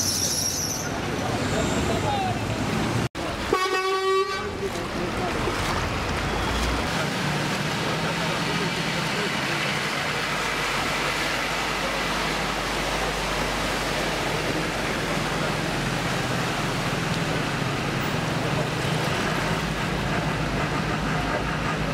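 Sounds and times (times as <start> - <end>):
churned water rushing: 0.3 - 21.9.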